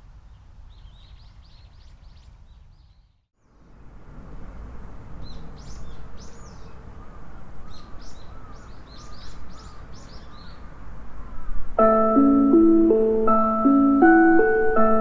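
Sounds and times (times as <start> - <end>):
small birds chirping: 0.1 - 4.0, 5.0 - 15.0.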